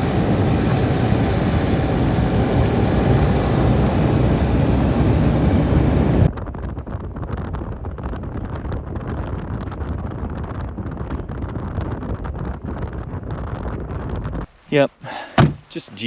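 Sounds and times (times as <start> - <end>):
engine and tyres rumbling: 0.0 - 14.5
wind buffeting microphone: 0.0 - 14.6.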